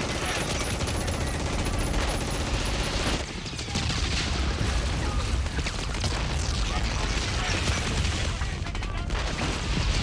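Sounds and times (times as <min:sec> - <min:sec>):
rapid gunfire: 0:00.0 - 0:10.0.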